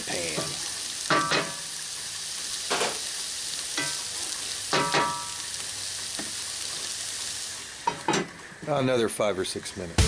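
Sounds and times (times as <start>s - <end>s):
food sizzling in a skillet: 0.0s - 10.0s.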